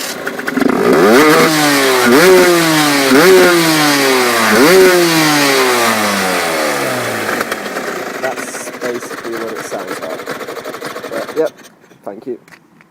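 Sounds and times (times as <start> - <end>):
two-stroke motorcycle engine revving: 0.0 - 11.7.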